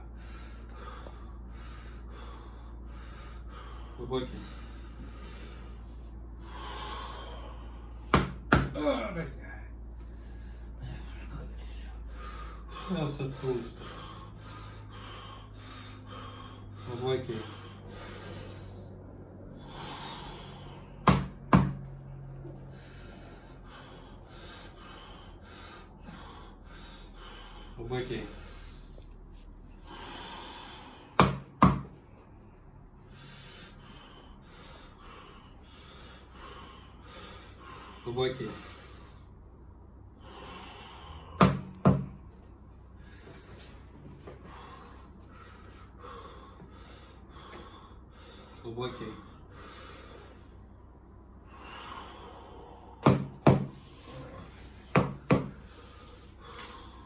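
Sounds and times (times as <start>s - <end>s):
deep breaths: 0.0s - 57.0s.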